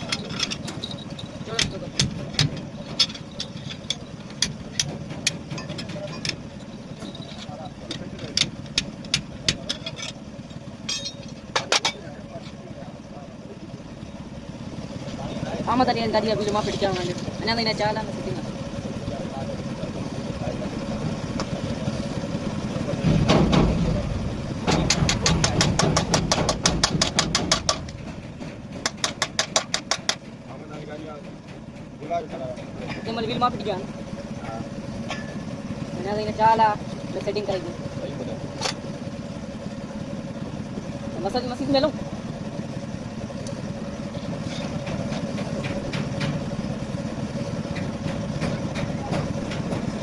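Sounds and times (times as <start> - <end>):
truck engine idling: 0.0 - 50.0.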